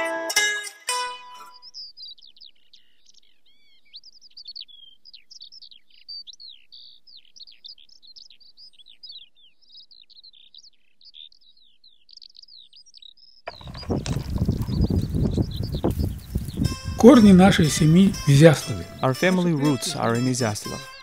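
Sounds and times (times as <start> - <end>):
songbird chirping and whistling: 1.4 - 21.0.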